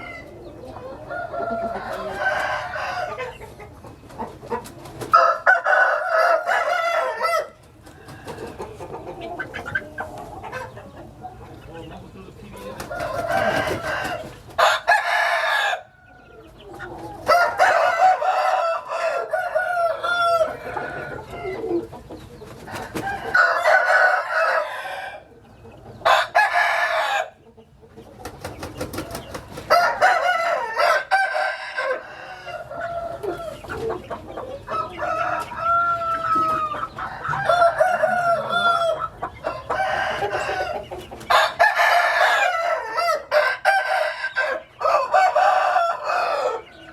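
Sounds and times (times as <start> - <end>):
roosters crowing: 0.0 - 11.8, 12.4 - 27.5, 28.4 - 46.9
chickens clucking: 0.0 - 46.9.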